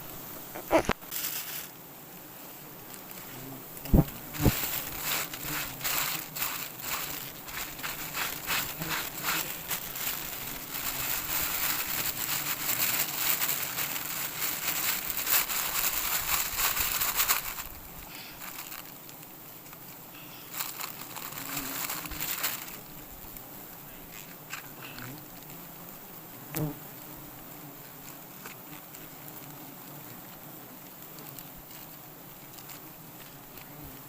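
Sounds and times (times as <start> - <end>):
crackling and rustling: 0.0 - 34.0.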